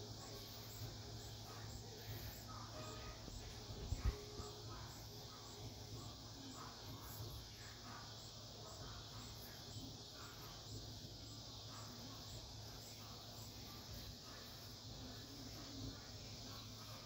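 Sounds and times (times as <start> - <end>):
insects droning: 0.0 - 17.0
low steady hum: 0.0 - 17.0.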